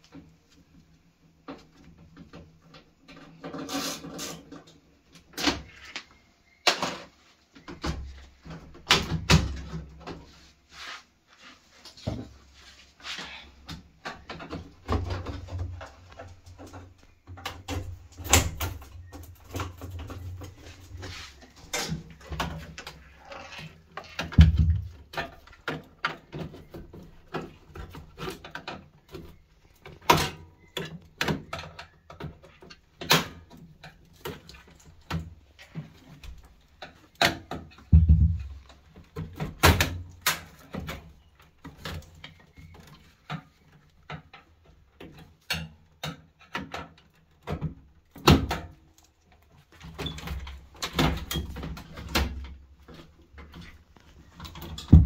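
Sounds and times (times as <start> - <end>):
knocks and clatter of machine parts: 1.3 - 10.3, 13.4 - 55.0.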